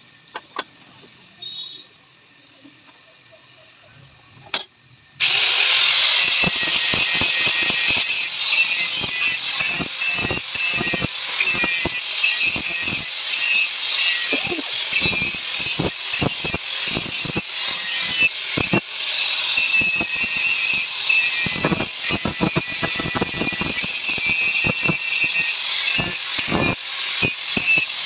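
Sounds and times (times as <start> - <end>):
power tool hissing on metal: 5.2 - 28.0.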